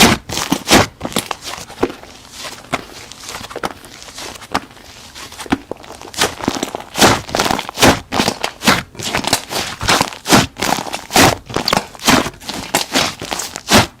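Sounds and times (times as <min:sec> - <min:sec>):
hands squishing slime: 0:00.0 - 0:14.0.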